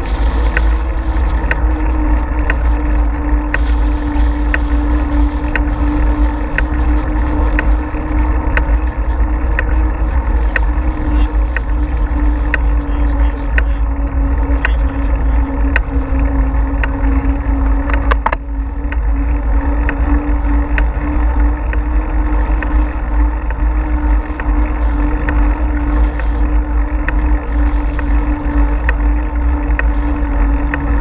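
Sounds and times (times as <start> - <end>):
steady hum: 0.0 - 31.0
tyre and road noise: 0.0 - 31.0
wind buffeting microphone: 0.0 - 31.0.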